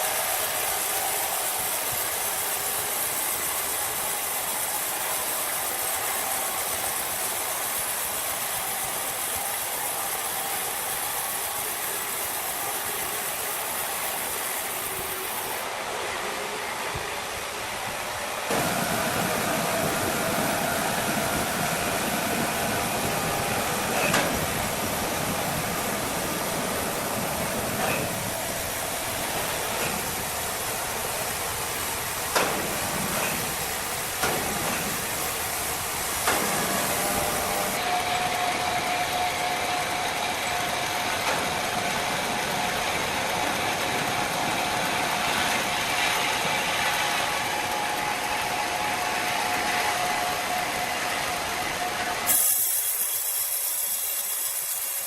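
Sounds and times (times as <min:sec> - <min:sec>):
hissing machinery: 0:00.0 - 0:55.0.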